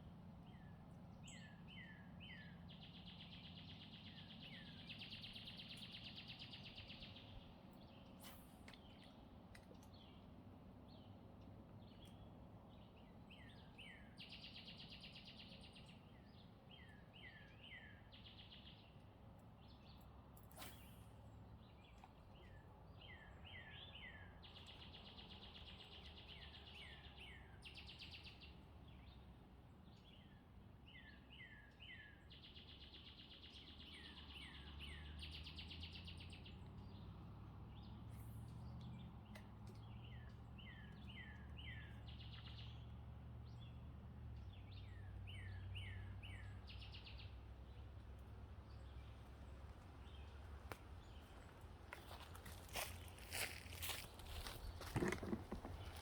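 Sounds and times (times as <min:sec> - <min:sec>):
songbird singing faintly: 0:00.0 - 0:56.0.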